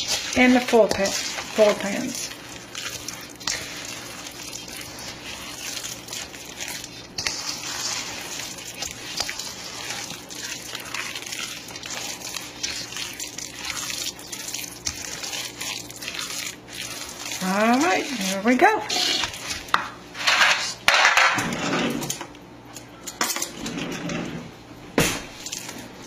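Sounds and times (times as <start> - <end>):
spoon stirring thick mixture: 0.0 - 22.2.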